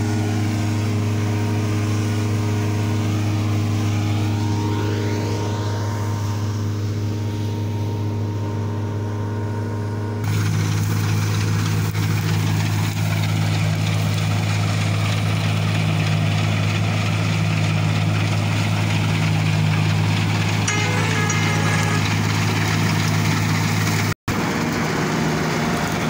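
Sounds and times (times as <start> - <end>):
combine harvester engine drone: 0.0 - 26.0
harvester cutting wheat: 0.0 - 26.0.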